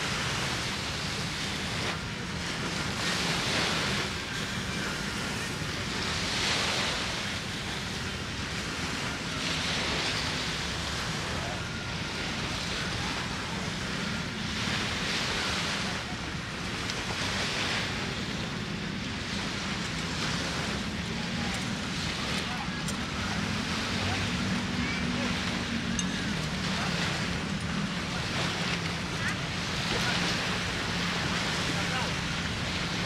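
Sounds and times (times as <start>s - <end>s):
sea waves washing onto beach: 0.0s - 33.0s.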